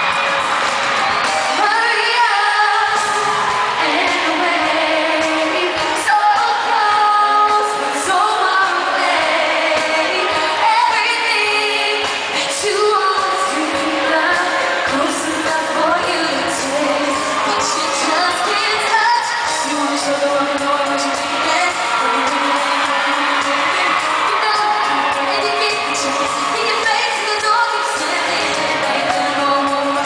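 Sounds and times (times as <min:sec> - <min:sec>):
loud band playing: 0:00.0 - 0:30.0
woman singing a pop song: 0:01.2 - 0:30.0.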